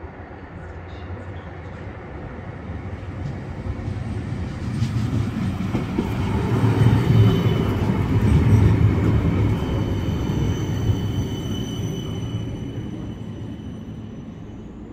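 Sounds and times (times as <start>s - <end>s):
tram wheels rumbling: 0.6s - 14.9s.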